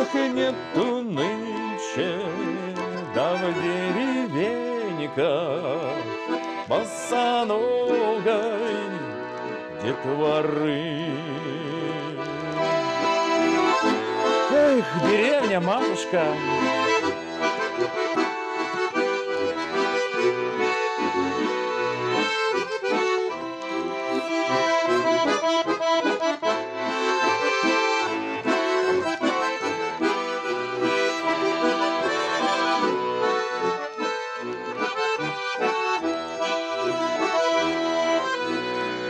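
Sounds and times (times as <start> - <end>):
button accordion folk music: 0.0 - 39.0.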